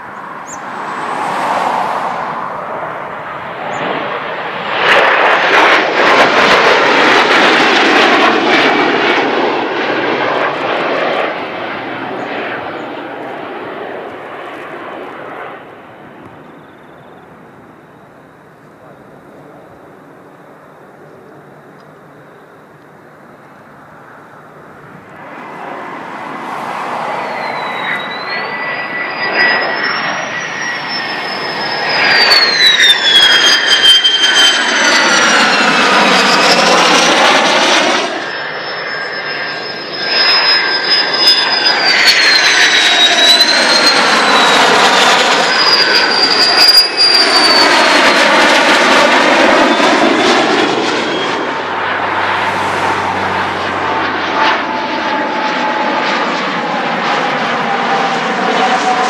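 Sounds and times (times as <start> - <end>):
jets flying low past: 0.0 - 59.0.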